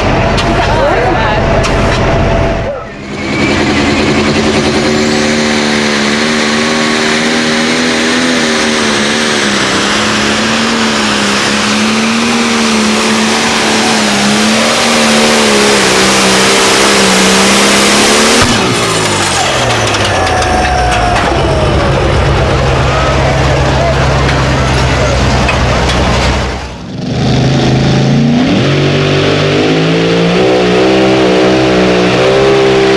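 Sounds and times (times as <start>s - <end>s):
tractor engine revving: 0.0s - 32.9s.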